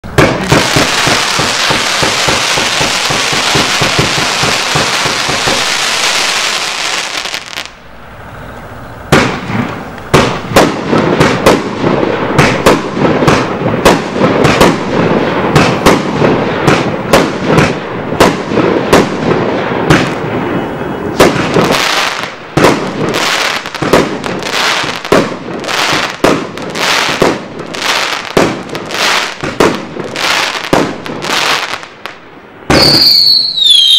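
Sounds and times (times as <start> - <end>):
firework shots and bursts: 0.0 - 7.8, 9.0 - 33.9
firework hissing crackle: 0.0 - 33.9.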